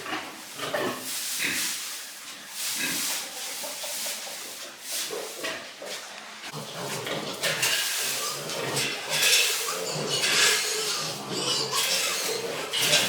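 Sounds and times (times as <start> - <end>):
pigs grunting and snuffling: 0.0 - 1.8, 2.4 - 13.0.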